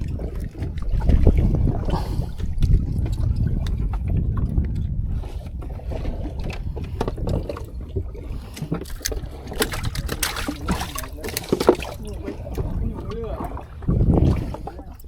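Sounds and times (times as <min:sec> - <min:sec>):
steady low rumble: 0:00.0 - 0:15.0
water sloshing against boat hull: 0:00.0 - 0:15.0.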